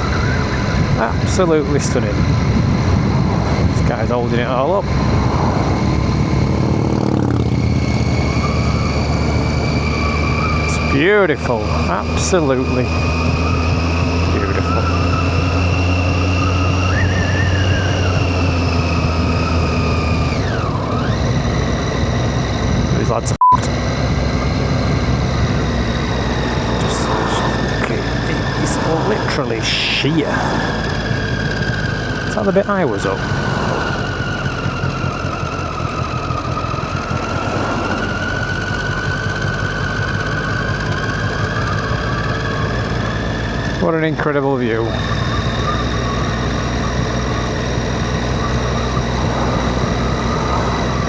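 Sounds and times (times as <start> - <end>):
wind noise: 0.0 - 44.0, 44.7 - 51.0
motorcycle engine running: 0.0 - 51.0.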